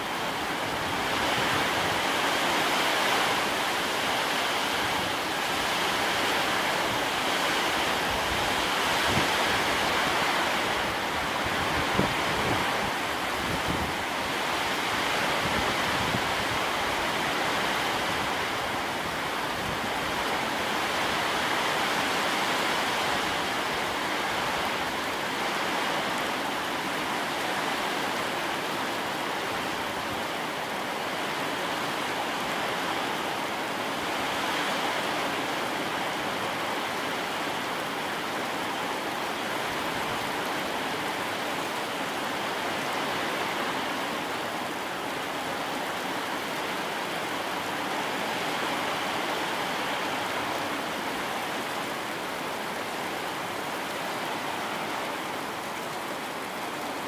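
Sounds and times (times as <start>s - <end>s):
heavy rain on flooded ground: 0.0s - 57.0s.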